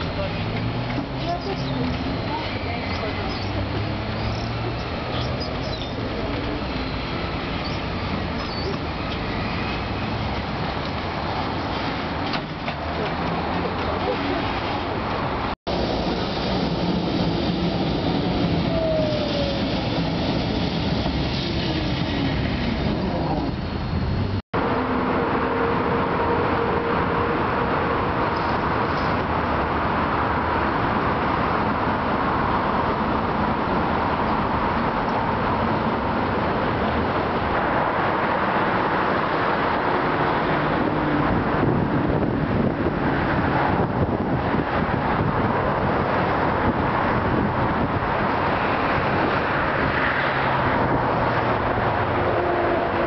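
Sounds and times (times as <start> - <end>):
road traffic rushing: 0.0 - 53.0
tram rumbling on street rails: 0.0 - 53.0.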